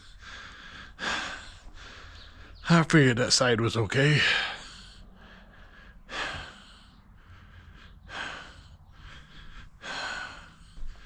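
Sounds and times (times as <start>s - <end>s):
person breathing out heavily: 0.0s - 2.6s, 4.2s - 11.0s.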